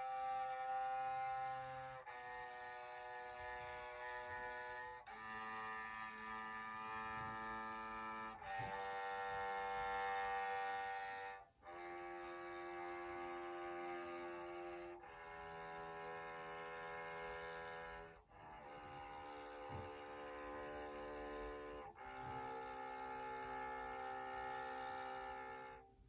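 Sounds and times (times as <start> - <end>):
electric cello bowed notes: 0.0 - 26.0.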